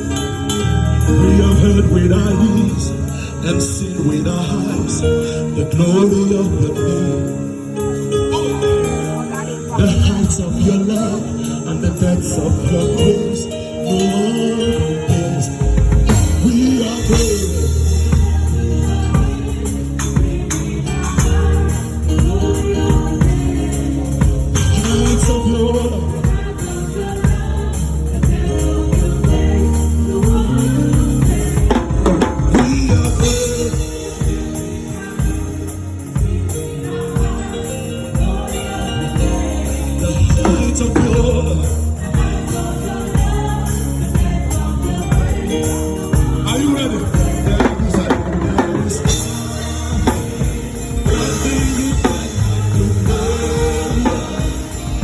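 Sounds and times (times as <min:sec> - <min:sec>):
gospel band playing: 0:00.0 - 0:55.0
people singing: 0:00.0 - 0:55.0.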